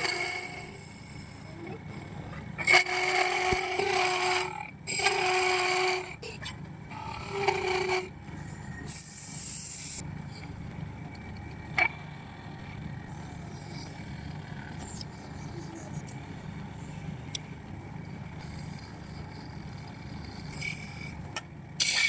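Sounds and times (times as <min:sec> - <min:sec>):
steady lathe hum: 0:00.0 - 0:21.8.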